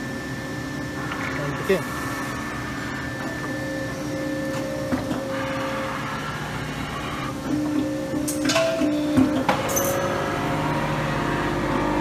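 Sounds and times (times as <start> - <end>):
hydraulic unit humming: 0.0 - 12.0.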